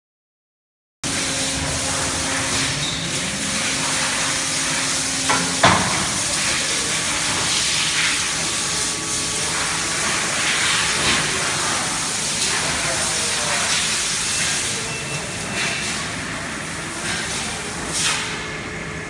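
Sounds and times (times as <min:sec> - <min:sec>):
low machine hum: 0:01.0 - 0:19.0
steady machine hiss: 0:01.1 - 0:19.0.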